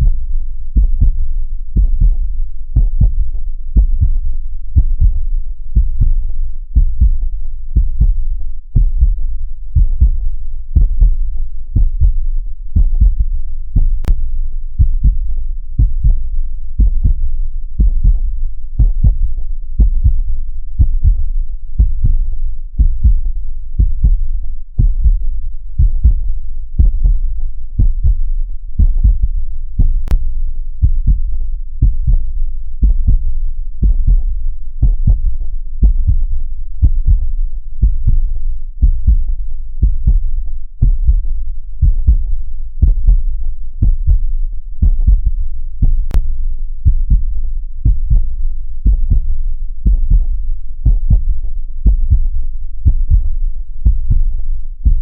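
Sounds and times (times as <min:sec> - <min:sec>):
constant low rumble: 0:00.0 - 0:55.0
heartbeat thumps: 0:00.0 - 0:55.0.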